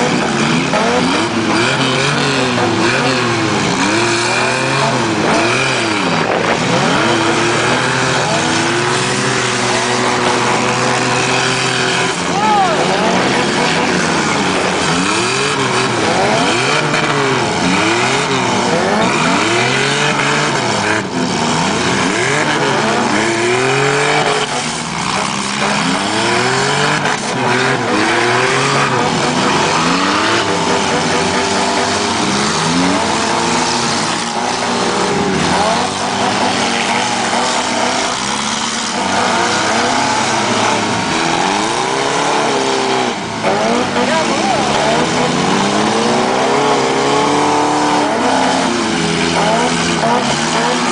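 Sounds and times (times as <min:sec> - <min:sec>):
car engines revving: 0:00.0 - 0:50.9
cars hitting: 0:00.0 - 0:50.9.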